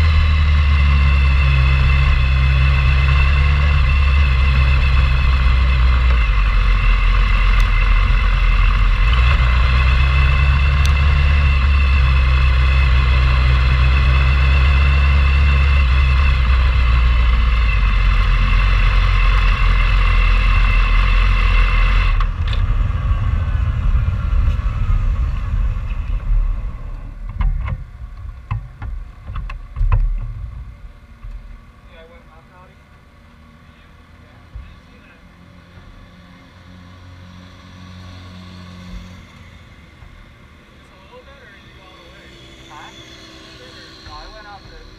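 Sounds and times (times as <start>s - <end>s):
high whine: 0.0s - 33.0s, 33.7s - 44.9s
vehicle engine running: 0.0s - 44.9s.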